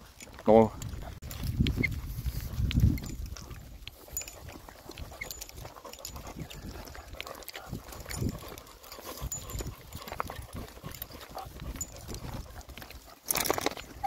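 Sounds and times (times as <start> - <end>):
footsteps on a path: 0.0 - 14.0.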